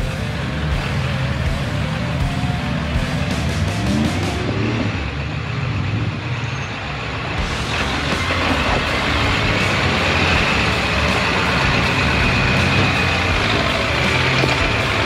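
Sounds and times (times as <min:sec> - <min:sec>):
steady high whine: 0:00.0 - 0:15.0
truck engine running: 0:00.0 - 0:15.0.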